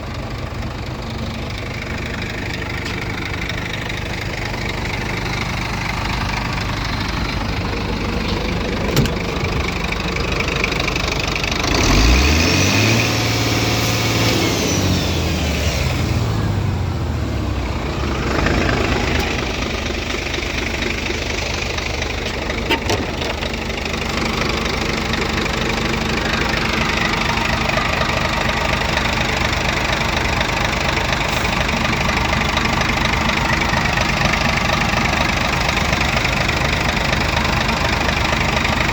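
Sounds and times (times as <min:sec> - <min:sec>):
diesel truck engine idling and revving: 0:00.0 - 0:38.9.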